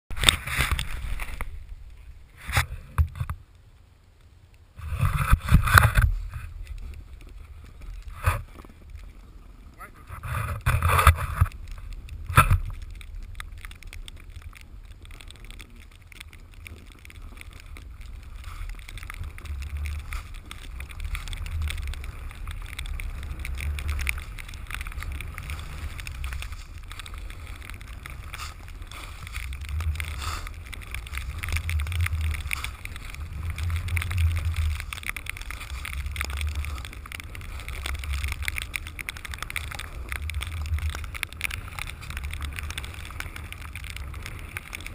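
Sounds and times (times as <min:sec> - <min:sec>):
snowboard scraping over snow: 0:00.2 - 0:03.2, 0:04.8 - 0:44.9.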